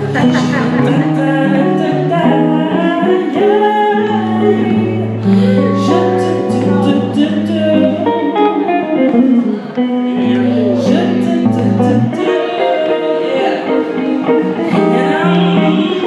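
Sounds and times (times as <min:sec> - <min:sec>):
woman singing into microphone: 0:00.1 - 0:16.0.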